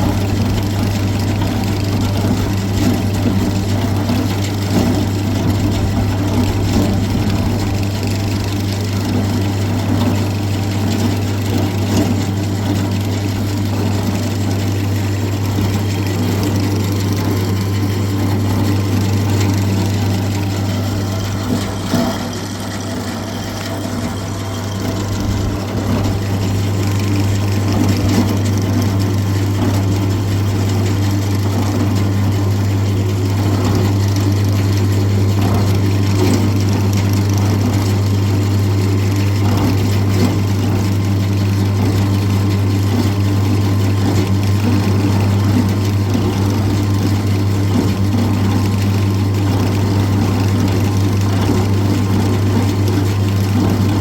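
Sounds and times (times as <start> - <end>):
motor humming: 0.0 - 42.8, 45.9 - 54.0.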